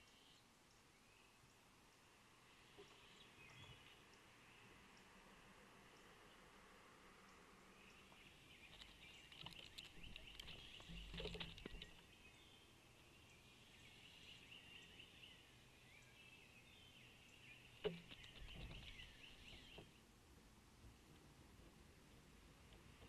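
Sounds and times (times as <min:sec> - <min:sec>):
small birds chirping: 0:00.0 - 0:20.1.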